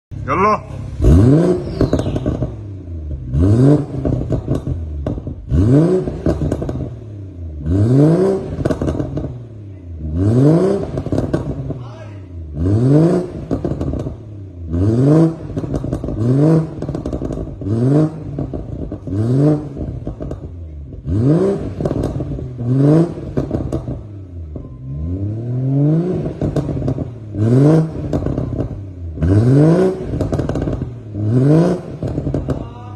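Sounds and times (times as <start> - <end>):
car engine revving: 0.1 - 32.9
exhaust crackles: 0.1 - 32.9.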